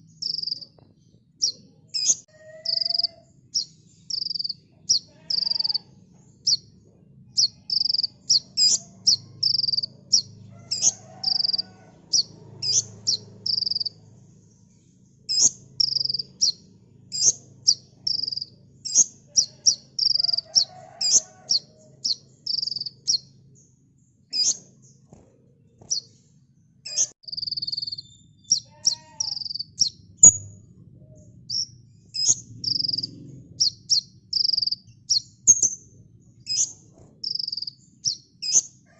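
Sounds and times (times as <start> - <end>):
sunbird singing: 0.0 - 25.1, 25.8 - 38.9.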